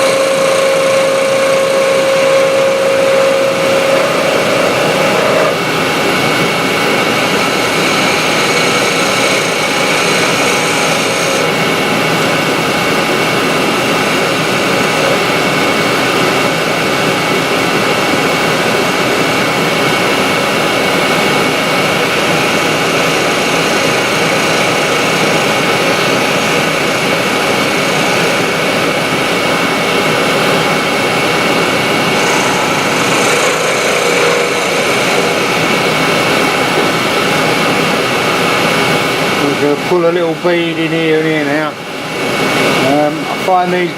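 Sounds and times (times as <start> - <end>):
turning tool cutting wood: 0.0 - 16.4, 20.0 - 41.6
wood lathe running: 0.0 - 43.9.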